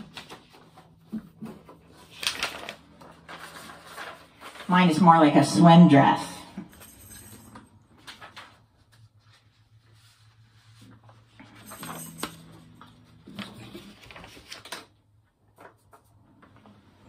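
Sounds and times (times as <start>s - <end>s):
paper rustling and shuffling: 0.0s - 5.1s, 6.7s - 17.0s.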